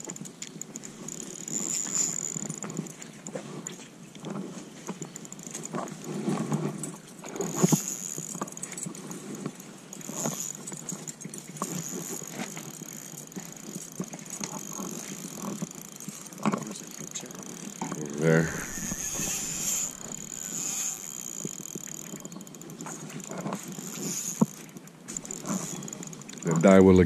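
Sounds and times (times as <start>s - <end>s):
fishing reel whirring and clicking: 0.0s - 27.0s.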